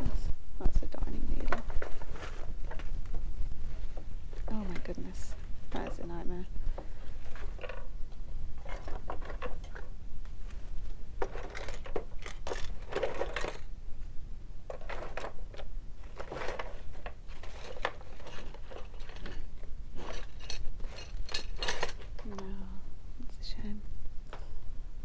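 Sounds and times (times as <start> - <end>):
hands rummaging through small items: 1.1 - 13.8, 14.6 - 22.5.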